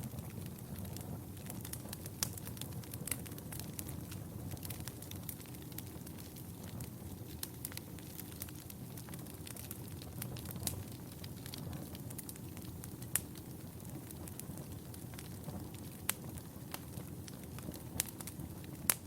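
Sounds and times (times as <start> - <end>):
wood fire crackling: 0.0 - 19.0
sharp pops of fire: 0.1 - 19.0.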